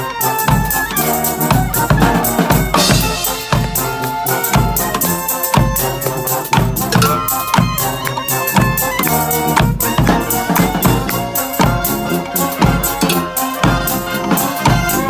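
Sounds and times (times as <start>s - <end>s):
street band playing: 0.0s - 15.0s.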